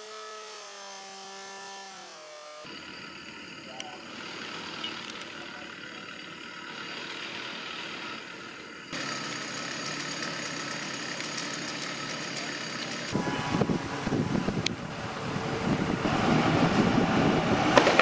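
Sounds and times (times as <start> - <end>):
diesel truck engine running: 2.7 - 18.0.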